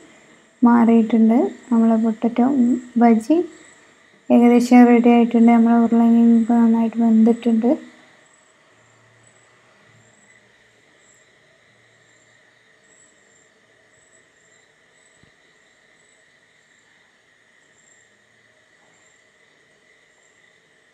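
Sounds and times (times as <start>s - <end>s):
insect chirping: 0.0s - 20.9s
steady low hiss: 0.0s - 20.9s.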